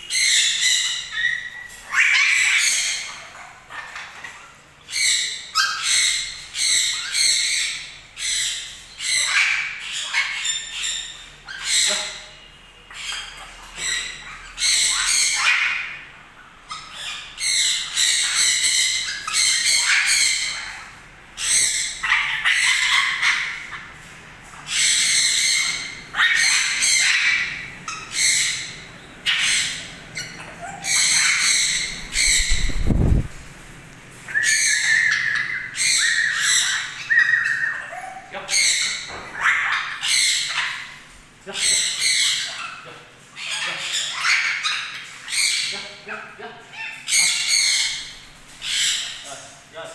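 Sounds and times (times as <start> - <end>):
parrots squawking: 0.0 - 49.9.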